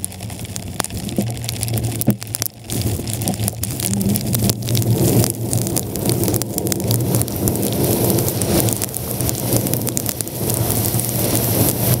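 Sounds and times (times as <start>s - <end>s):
engine and road noise: 0.0s - 12.0s
rain ticking on vehicle: 0.0s - 12.0s.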